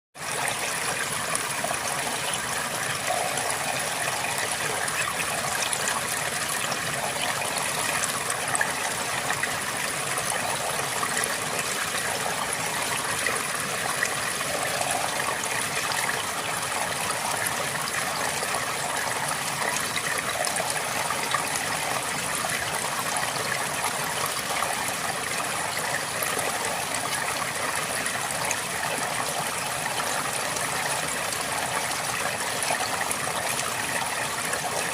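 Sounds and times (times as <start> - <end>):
river flowing over stones: 0.2 - 34.9.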